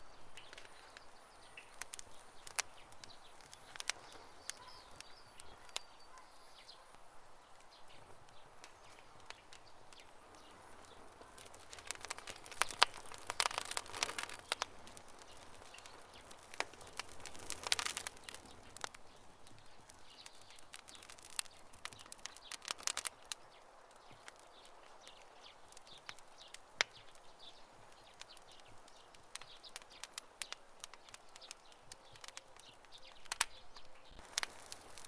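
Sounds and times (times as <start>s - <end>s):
campfire crackling: 0.0s - 35.0s
faint hiss: 0.0s - 35.0s.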